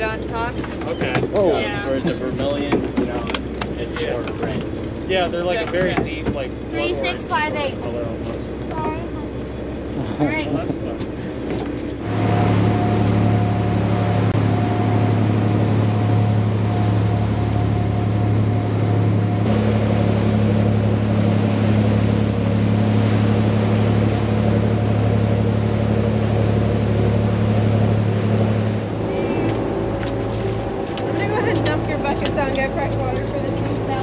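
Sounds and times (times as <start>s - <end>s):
boat engine drone: 0.0s - 34.0s
water rushing from wake: 0.0s - 34.0s.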